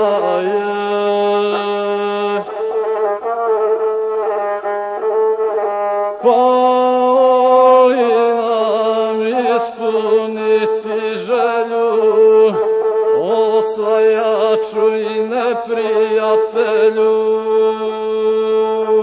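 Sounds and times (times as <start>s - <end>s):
bowed fiddle melody: 0.0s - 19.0s.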